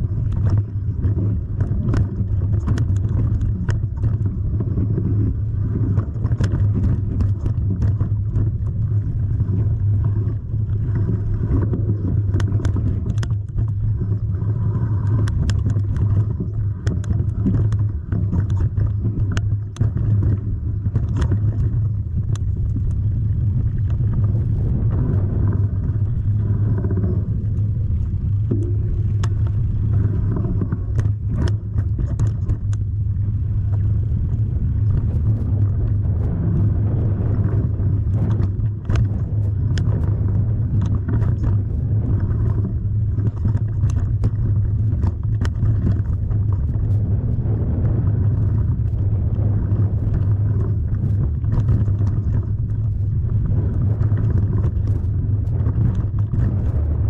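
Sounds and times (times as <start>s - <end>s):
vehicle engine rumbling: 0.0s - 57.0s.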